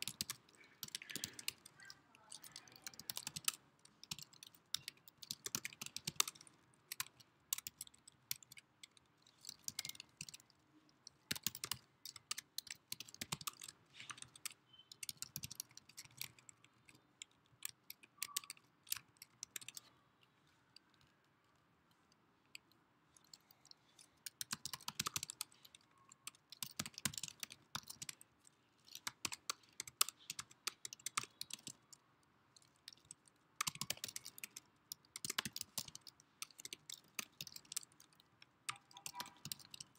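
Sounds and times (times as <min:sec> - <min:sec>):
computer keyboard typing: 0:00.0 - 0:20.0, 0:22.6 - 0:39.9.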